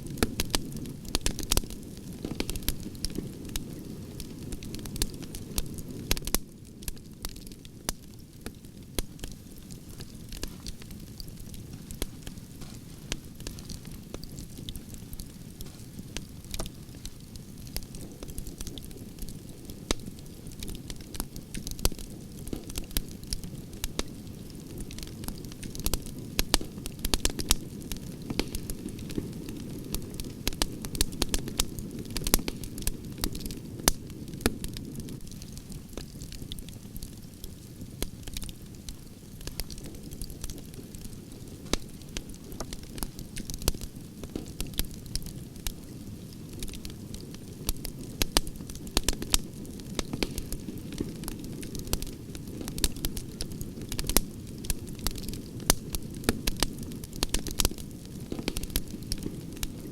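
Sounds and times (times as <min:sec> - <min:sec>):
campfire crackling and popping: 0:00.0 - 0:59.9
low rushing of flames: 0:00.0 - 0:59.9.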